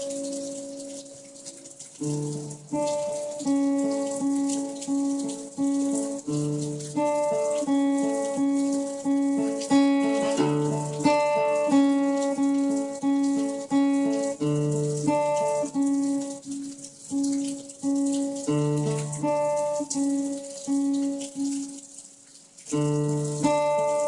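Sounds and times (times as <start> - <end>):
guitar picking arpeggio: 0.0 - 21.9, 22.7 - 24.0
rain hiss and patter: 0.0 - 24.0.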